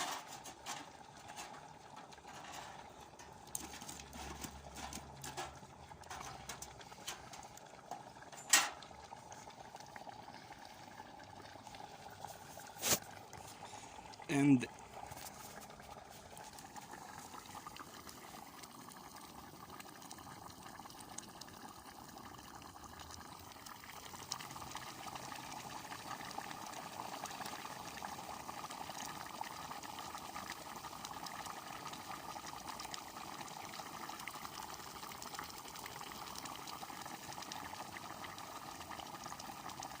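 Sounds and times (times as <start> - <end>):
stew bubbling in a cauldron: 0.0 - 40.0.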